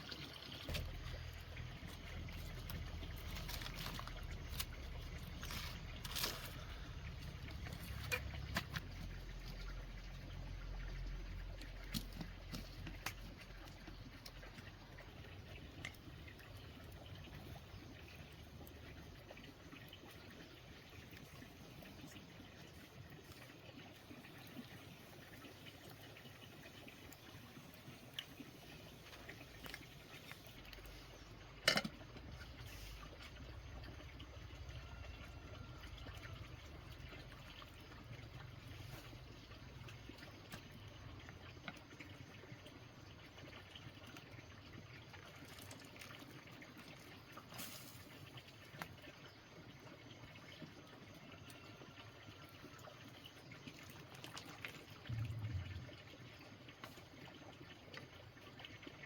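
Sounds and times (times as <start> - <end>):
water trickling and pouring: 0.0 - 59.0.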